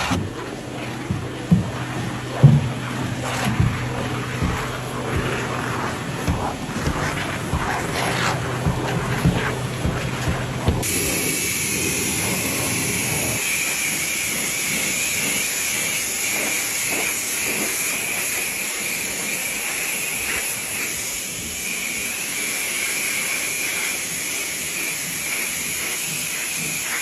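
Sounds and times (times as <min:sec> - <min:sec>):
pressure washer spraying water: 0:00.0 - 0:27.0.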